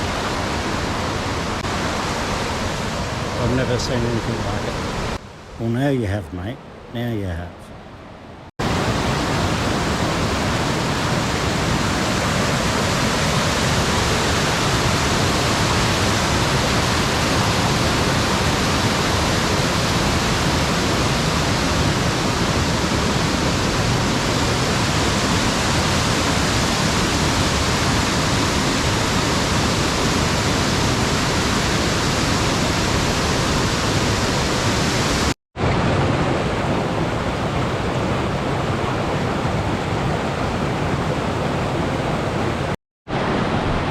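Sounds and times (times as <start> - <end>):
rushing white water: 0.0 - 43.9.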